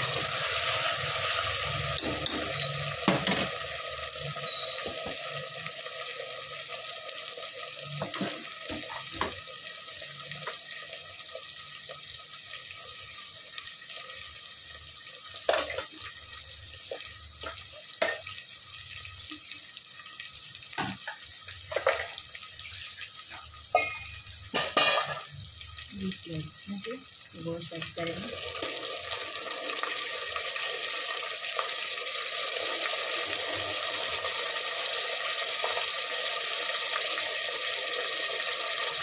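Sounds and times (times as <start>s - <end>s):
oil crackling and popping: 0.0s - 26.1s, 27.3s - 39.0s
onions sizzling in hot oil: 0.0s - 39.0s.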